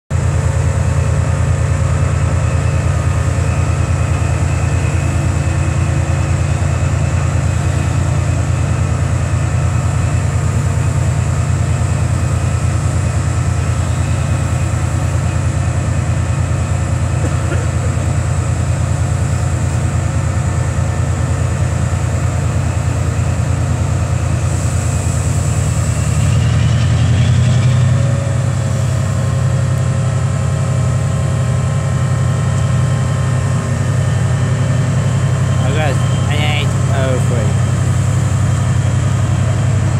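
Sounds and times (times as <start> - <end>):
locomotive engine idling: 0.1 - 39.9
rising engine whine: 0.2 - 39.9.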